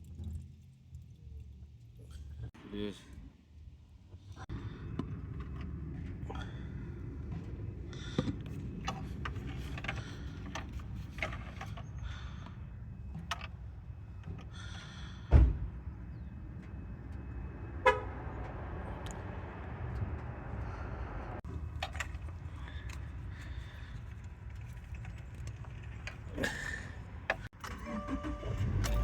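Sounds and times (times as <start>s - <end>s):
car engine rumbling: 3.5s - 29.0s.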